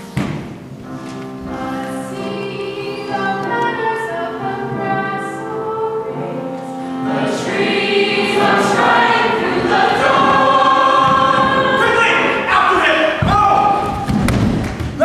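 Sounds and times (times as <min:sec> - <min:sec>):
group of voices singing: 0:01.4 - 0:14.0.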